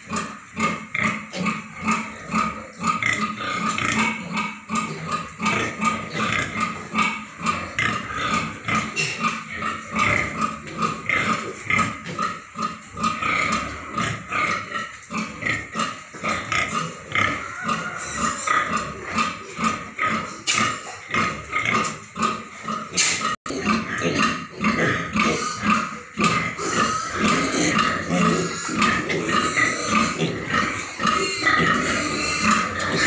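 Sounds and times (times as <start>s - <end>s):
pigs grunting: 0.0s - 33.0s.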